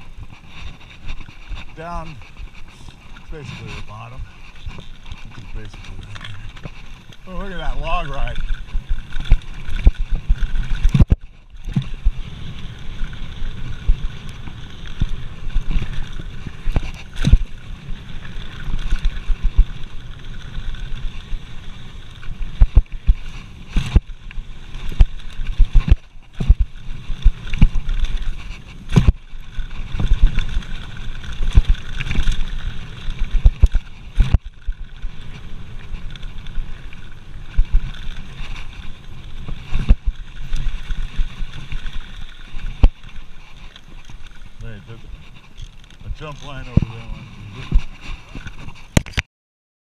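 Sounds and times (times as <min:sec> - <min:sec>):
bike clattering over bumps: 0:00.0 - 0:48.8
bike rolling rumble: 0:00.0 - 0:49.2.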